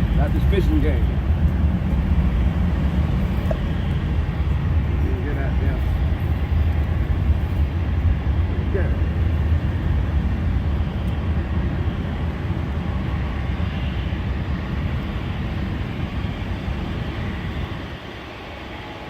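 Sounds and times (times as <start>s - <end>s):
jet aircraft rumble: 0.0s - 19.0s.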